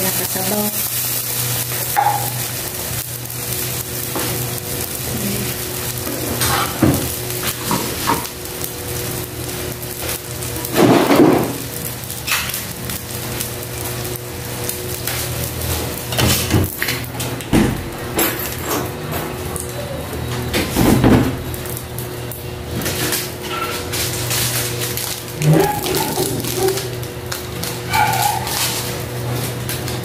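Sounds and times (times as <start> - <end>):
soup simmering and sizzling: 0.0 - 17.0, 21.5 - 30.0.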